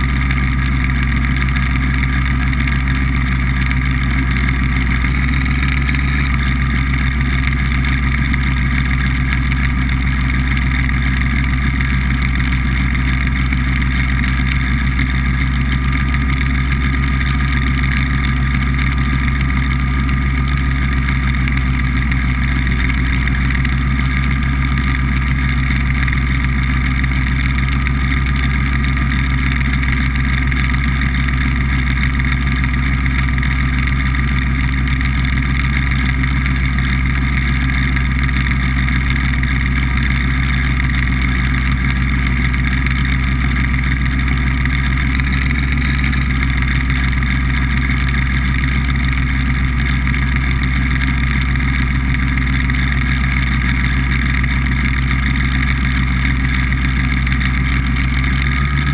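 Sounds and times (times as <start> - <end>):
hovercraft engine drone: 0.0 - 58.9.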